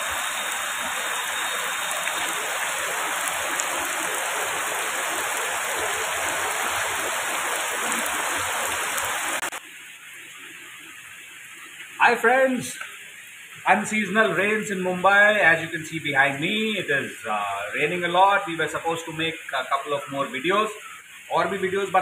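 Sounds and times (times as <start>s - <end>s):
heavy rain on paving stones: 0.0s - 22.0s.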